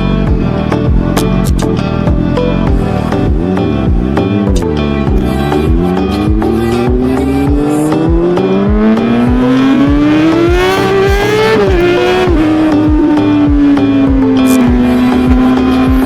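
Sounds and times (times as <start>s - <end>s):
motorcycle engine revving: 0.0s - 16.0s
music with thumping beat: 0.0s - 16.0s.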